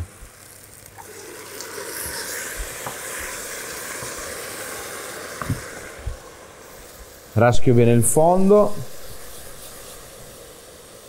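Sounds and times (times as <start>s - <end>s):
tomatoes sizzling in a pot: 0.0s - 11.0s.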